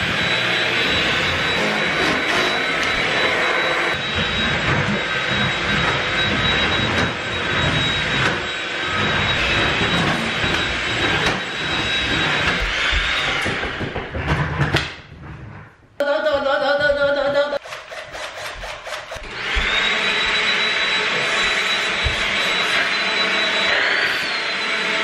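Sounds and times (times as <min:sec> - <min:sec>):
stick vacuum cleaner running: 0:00.0 - 0:14.6, 0:17.6 - 0:25.0.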